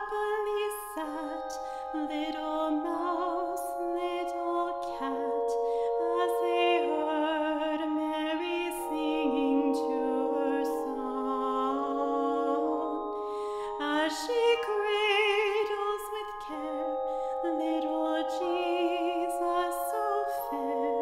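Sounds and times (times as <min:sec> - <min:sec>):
handbells ringing chords: 0:00.0 - 0:21.0
woman singing: 0:00.0 - 0:21.0.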